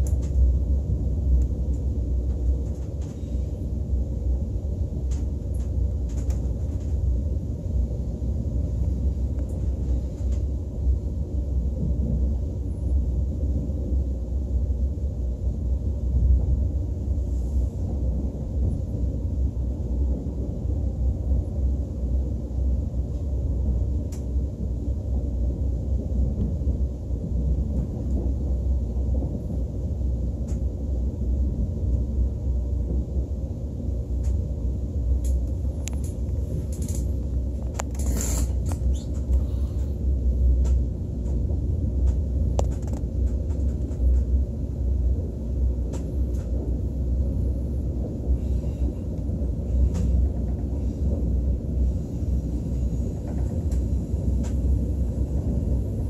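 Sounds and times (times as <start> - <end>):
train rumble inside cabin: 0.0 - 56.0.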